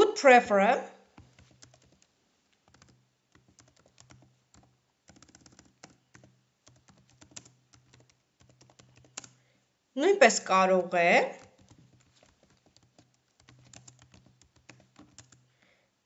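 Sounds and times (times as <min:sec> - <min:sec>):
faint keyboard typing: 0:01.1 - 0:09.6, 0:11.1 - 0:15.7.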